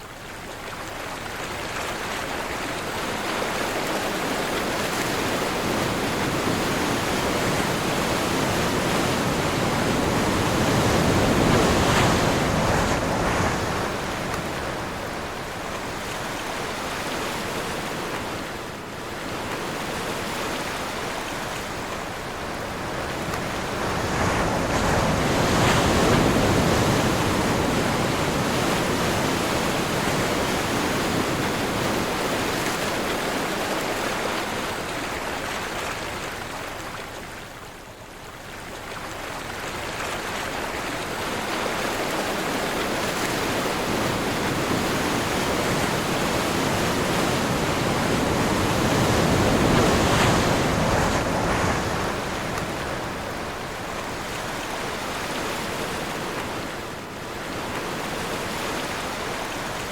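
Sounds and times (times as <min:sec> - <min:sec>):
sea waves surging: 0:00.0 - 0:59.9.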